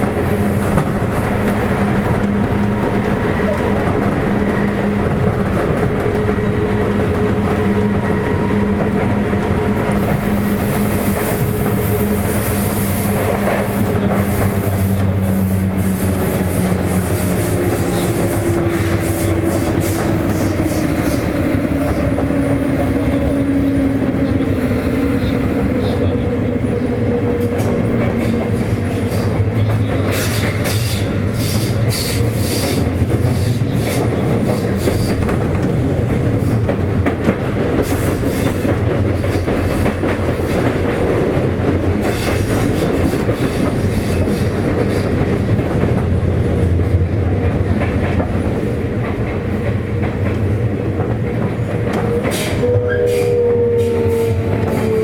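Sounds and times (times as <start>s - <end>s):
electric train rumble: 0.0s - 55.0s.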